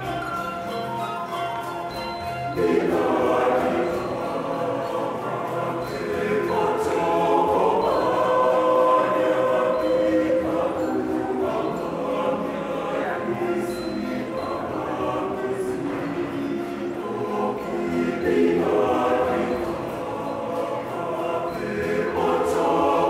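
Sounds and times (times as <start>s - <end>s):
mixed choir singing: 2.1s - 23.0s.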